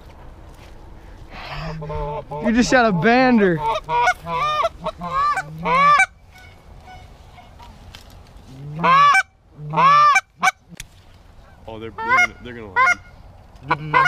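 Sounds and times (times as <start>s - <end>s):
goose honking: 1.3s - 7.8s, 8.5s - 10.8s, 11.4s - 14.0s.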